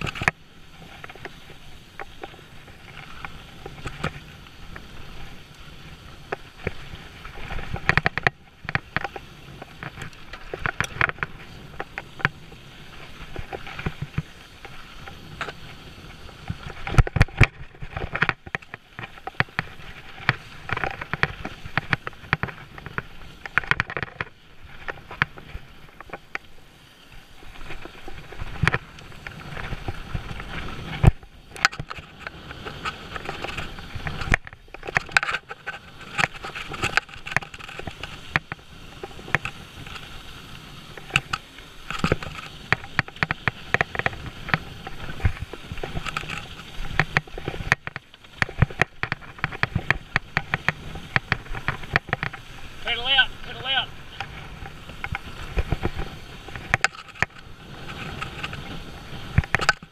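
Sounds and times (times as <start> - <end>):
bike knocking and rattling: 0.0 - 59.9
bike tyres rolling over stones: 0.0 - 59.9.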